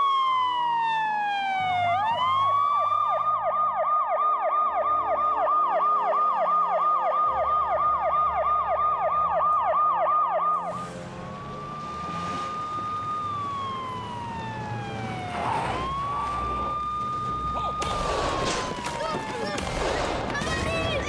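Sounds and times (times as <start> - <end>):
police siren yelp and wail: 0.0 - 21.0.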